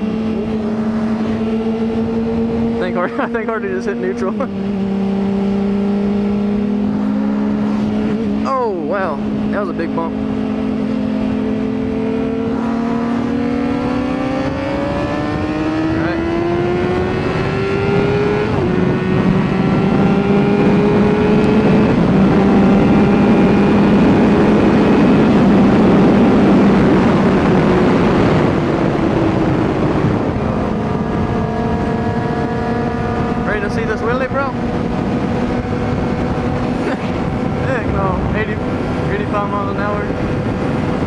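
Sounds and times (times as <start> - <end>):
motorcycle engine accelerating: 0.0 - 41.0
wind rushing: 3.6 - 41.0.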